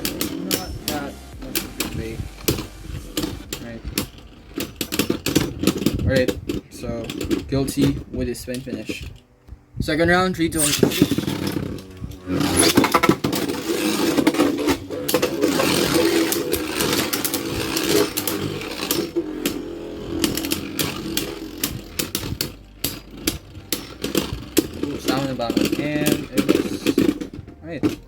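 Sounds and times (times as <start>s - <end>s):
spinning tops clicking as they collide: 0.0s - 6.1s, 10.6s - 27.4s
spinning tops whirring: 0.0s - 9.2s, 10.5s - 28.0s.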